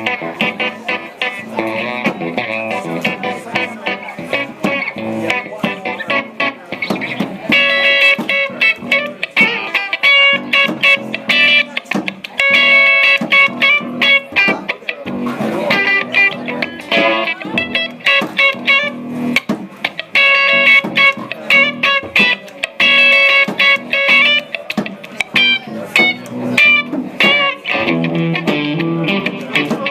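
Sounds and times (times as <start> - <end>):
funky plucked guitar riff: 0.0 - 29.9.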